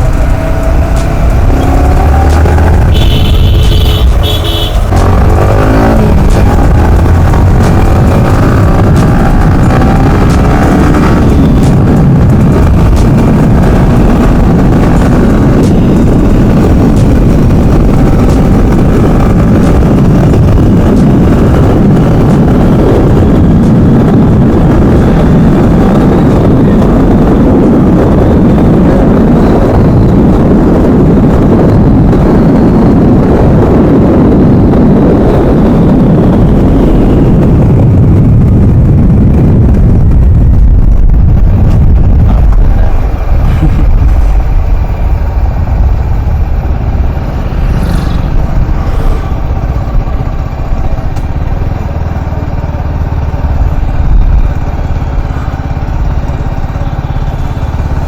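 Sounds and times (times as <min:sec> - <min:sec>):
motorcycle engine drone: 0:00.0 - 0:58.0
wind buffeting microphone: 0:00.0 - 0:58.0.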